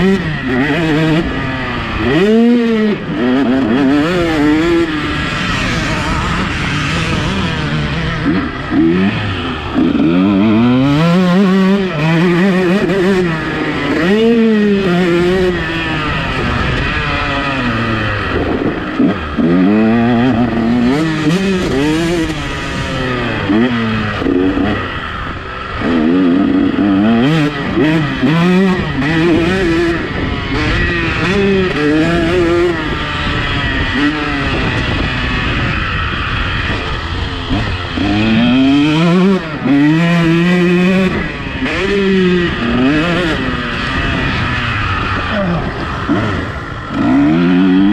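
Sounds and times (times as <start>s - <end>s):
motorbike engine revving: 0.0s - 47.9s.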